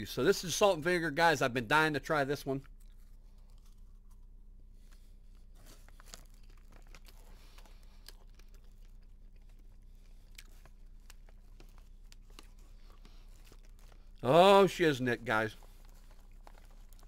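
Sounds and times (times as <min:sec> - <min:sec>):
popcorn being chewed: 0:02.3 - 0:17.0.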